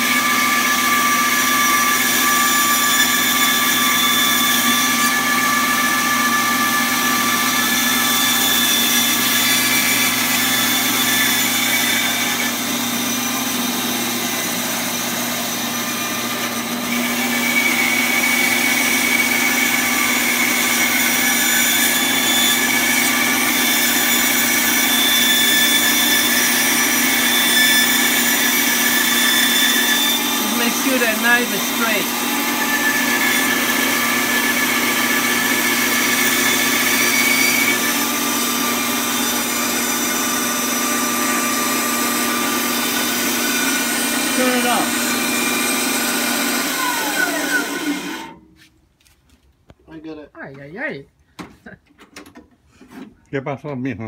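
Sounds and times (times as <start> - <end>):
band saw cutting wood: 0.0 - 48.4.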